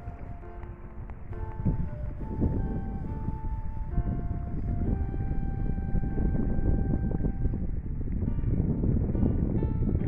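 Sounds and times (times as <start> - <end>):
faint music: 0.0 - 10.0
wind buffeting microphone: 0.0 - 10.0.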